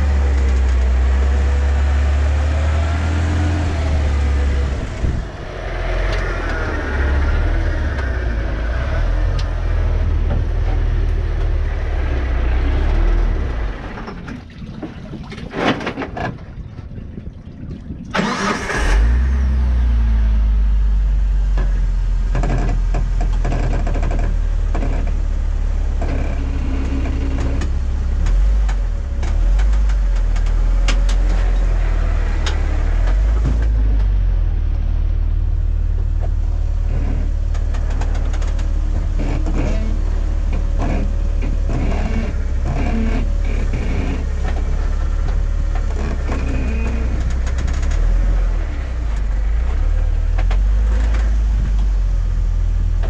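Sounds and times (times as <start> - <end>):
vehicle engine starting and running: 0.0 - 17.2, 17.9 - 53.0.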